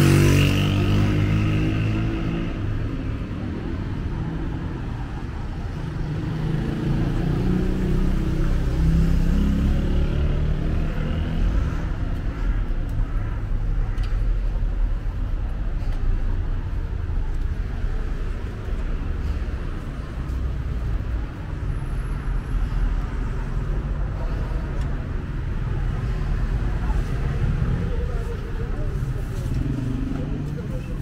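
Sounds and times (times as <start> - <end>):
cars driving past: 0.0 - 31.0.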